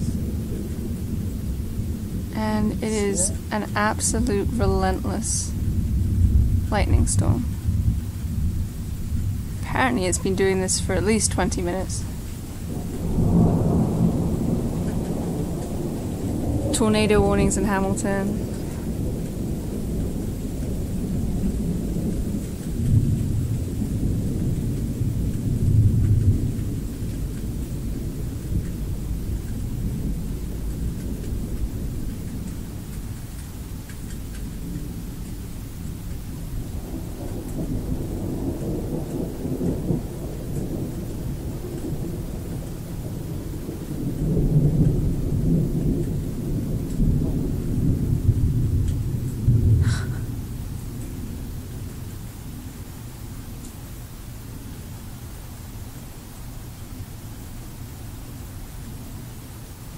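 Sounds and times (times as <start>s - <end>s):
rain falling: 0.0s - 59.9s
thunder rumbling: 0.0s - 59.9s.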